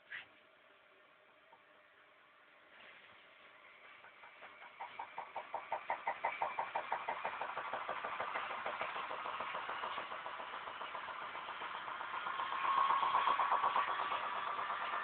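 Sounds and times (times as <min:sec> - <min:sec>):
washing machine whine: 0:02.5 - 0:15.0.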